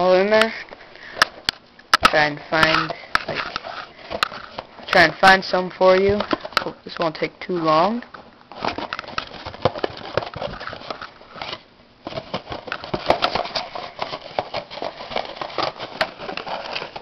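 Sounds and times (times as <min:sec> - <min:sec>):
hand rummaging through paper tags: 0:02.1 - 0:17.0.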